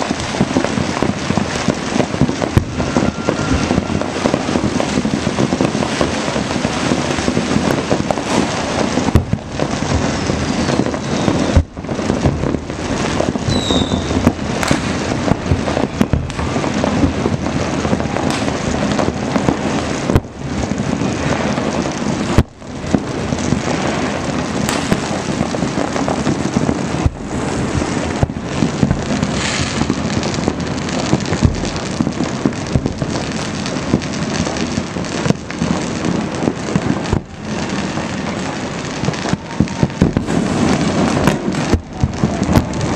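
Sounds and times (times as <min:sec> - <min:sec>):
firecrackers crackling and popping: 0:00.0 - 0:42.9.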